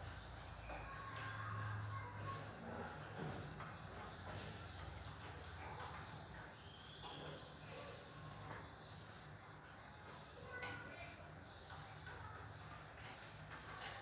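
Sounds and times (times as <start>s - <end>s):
cage birds chirping: 0.0s - 14.0s.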